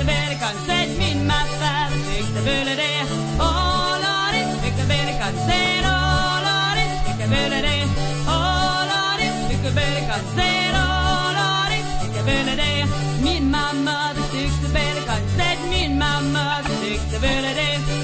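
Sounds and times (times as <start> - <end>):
person singing: 0.0 - 18.0
repeating bass notes: 0.0 - 18.0.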